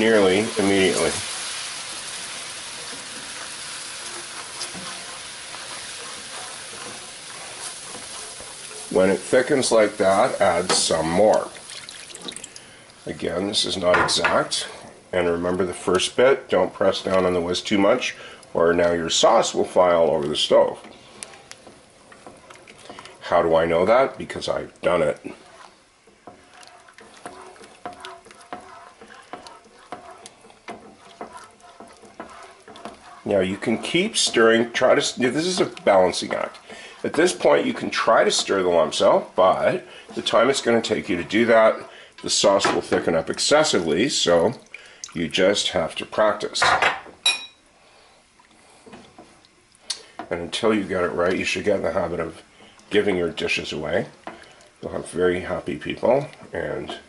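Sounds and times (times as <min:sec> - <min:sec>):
whisk scraping and ticking on pan: 0:00.0 - 0:12.6, 0:16.9 - 0:46.5, 0:47.9 - 0:57.0
sauce sizzling in a pan: 0:00.0 - 0:13.5, 0:14.4 - 0:57.0.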